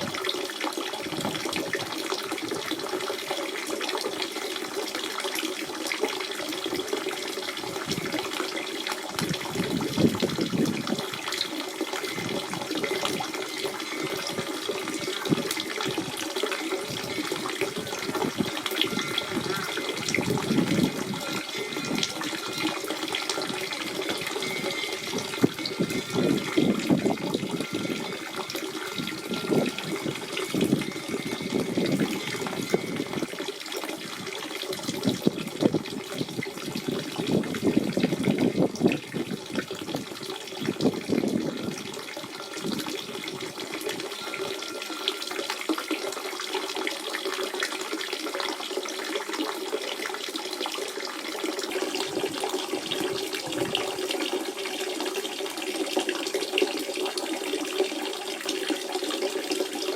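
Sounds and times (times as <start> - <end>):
spring water gurgling: 0.0 - 59.9.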